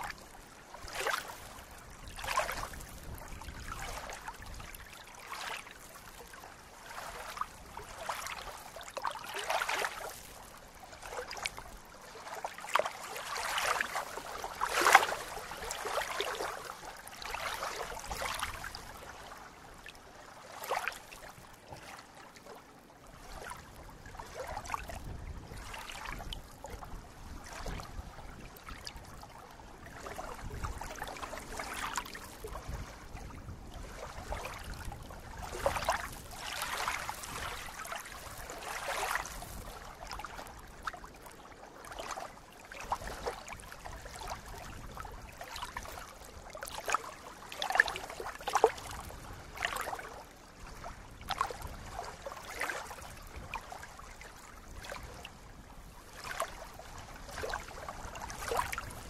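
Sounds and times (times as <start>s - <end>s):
small waves lapping: 0.0s - 59.0s.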